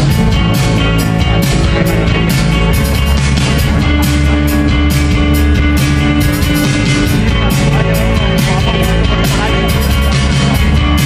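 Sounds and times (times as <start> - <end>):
drum kit beat: 0.0 - 11.0
electric guitars: 0.0 - 11.0.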